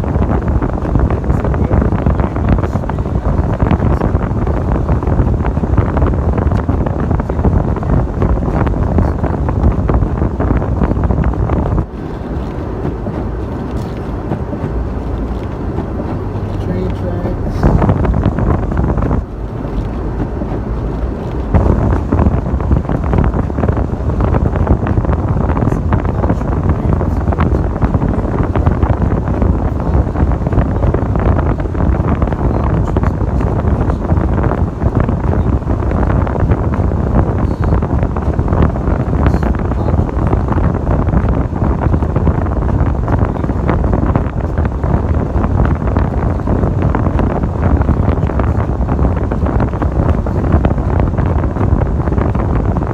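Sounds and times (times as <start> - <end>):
vehicle low rumble: 0.0 - 52.9
wind noise on microphone: 0.0 - 52.9.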